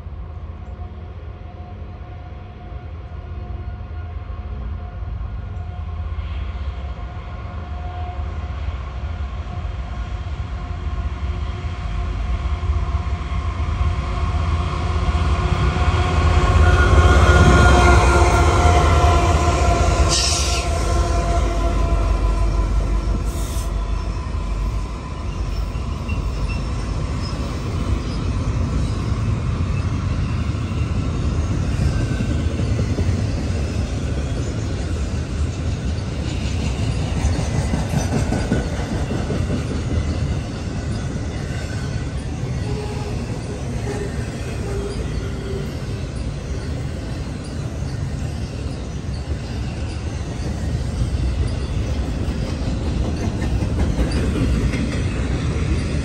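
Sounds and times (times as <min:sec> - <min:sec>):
diesel locomotive engine: 0:00.0 - 0:56.0
train wheels rumbling on rails: 0:00.0 - 0:56.0.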